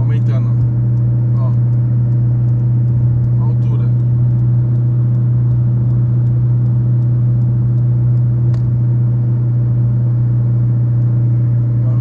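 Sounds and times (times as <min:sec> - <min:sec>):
car cabin drone: 0:00.0 - 0:12.0.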